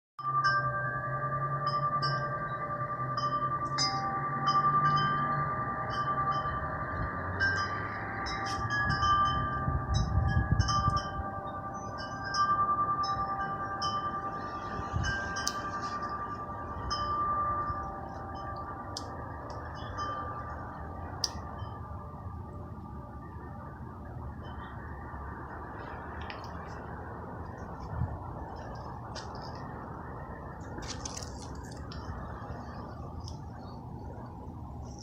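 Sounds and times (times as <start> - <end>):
wind chimes ringing: 0.2 - 35.0.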